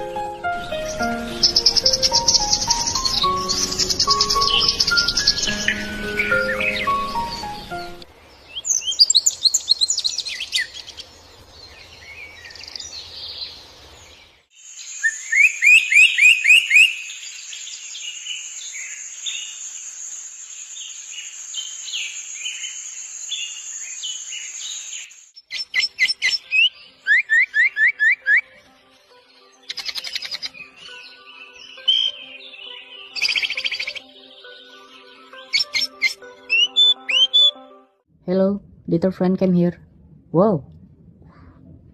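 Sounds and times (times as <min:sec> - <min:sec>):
songbirds chirping: 0:00.0 - 0:37.6.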